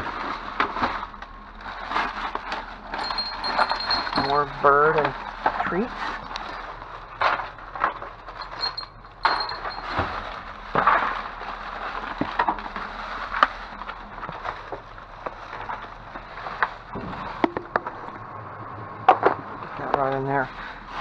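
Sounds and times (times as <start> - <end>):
objects rummaged in dumpster: 0.0 - 18.2.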